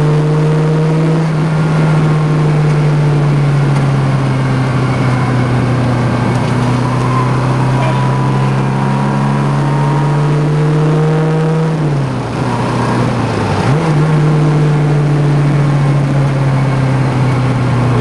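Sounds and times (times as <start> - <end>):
car engine pulling under load: 0.0 - 18.0.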